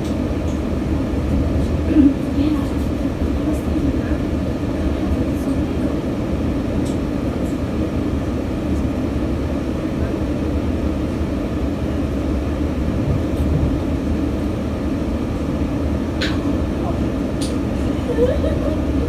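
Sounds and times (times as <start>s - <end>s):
train carriage rumble: 0.0s - 19.0s.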